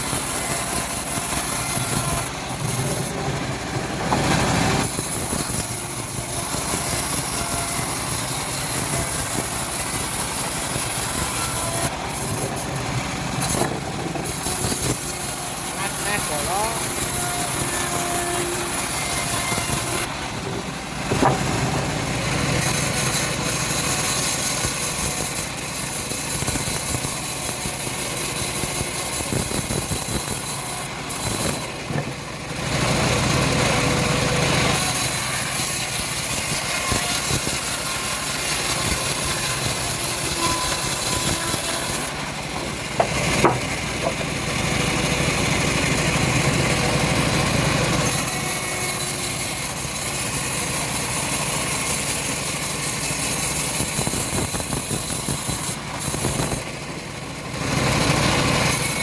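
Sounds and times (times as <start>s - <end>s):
bandsaw sawmill sawing log: 0.0s - 59.0s.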